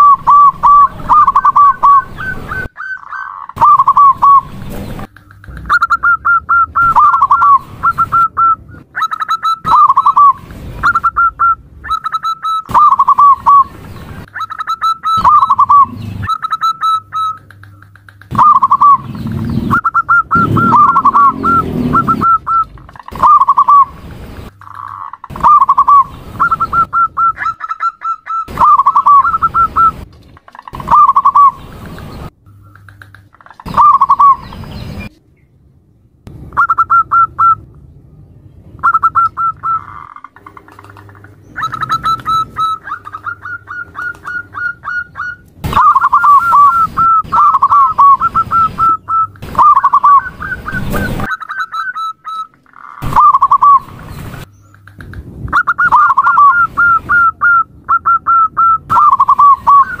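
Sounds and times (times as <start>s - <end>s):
dove cooing: 0.0s - 24.0s, 24.7s - 31.9s, 32.6s - 34.6s, 38.8s - 54.0s, 54.8s - 60.0s.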